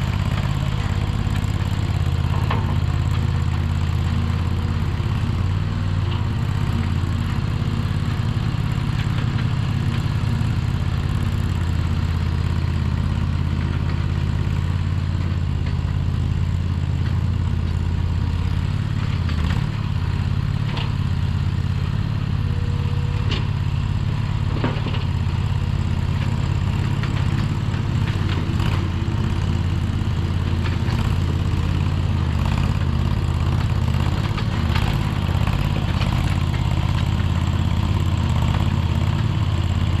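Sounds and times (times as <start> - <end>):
skid steer engine running: 0.0 - 40.0.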